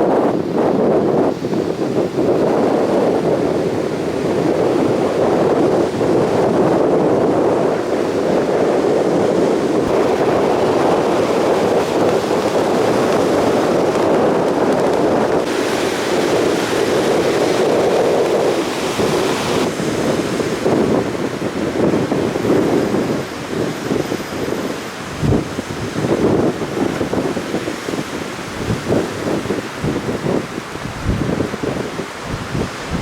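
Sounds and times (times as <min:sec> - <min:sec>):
surf breaking on beach: 0:00.0 - 0:33.0
wind buffeting microphone: 0:00.0 - 0:33.0.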